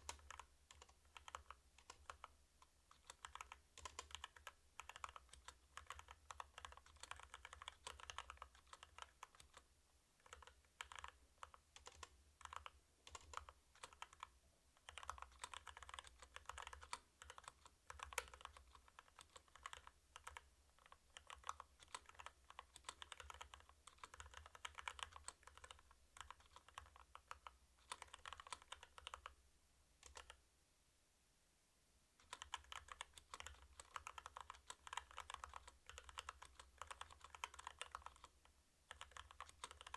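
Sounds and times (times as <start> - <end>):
mechanical keyboard typing: 0.0 - 29.4, 30.0 - 30.4, 32.2 - 39.9.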